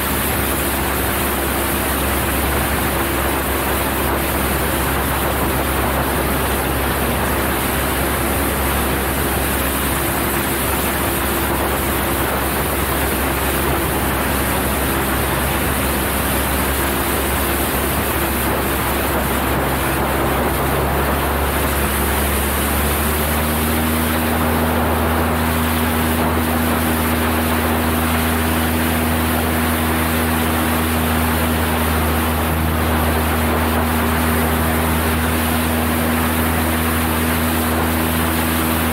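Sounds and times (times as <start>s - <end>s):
propeller plane engine droning: 0.0s - 38.9s
rush of airflow: 0.0s - 38.9s.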